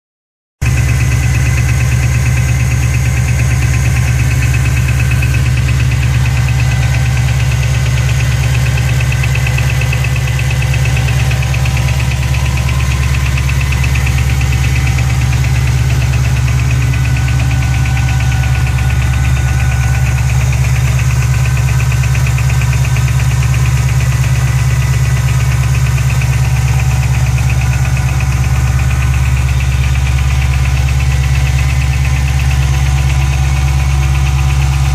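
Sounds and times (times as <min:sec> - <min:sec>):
car engine running: 0:00.6 - 0:34.9.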